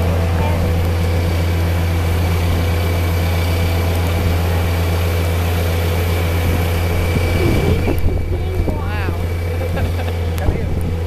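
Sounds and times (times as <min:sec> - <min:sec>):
hydraulic crane hum and whine: 0:00.0 - 0:11.0.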